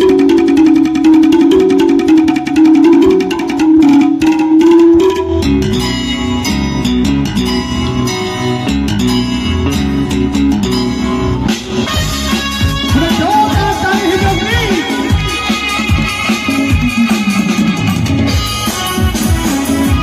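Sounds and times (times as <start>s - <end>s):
instrumental music over loudspeakers: 0.0s - 20.0s.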